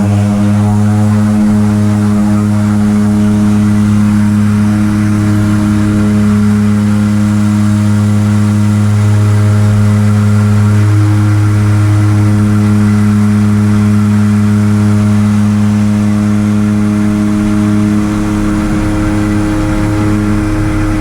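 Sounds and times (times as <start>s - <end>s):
motor droning: 0.0s - 21.0s.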